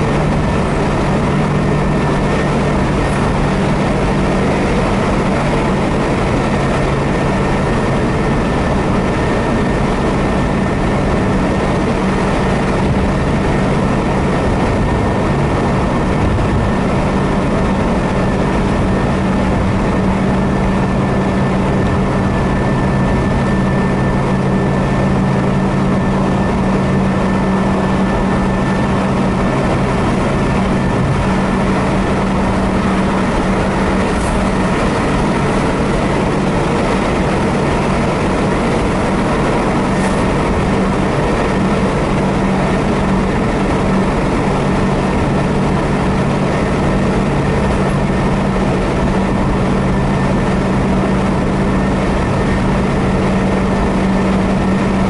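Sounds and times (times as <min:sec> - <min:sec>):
low engine hum: 0:00.0 - 0:55.0
road and tyre noise: 0:00.0 - 0:55.0.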